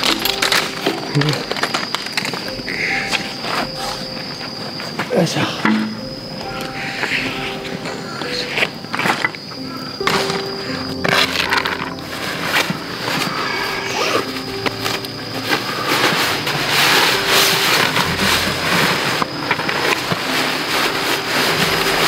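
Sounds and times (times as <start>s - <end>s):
nylon fabric rustling: 0.0s - 22.0s.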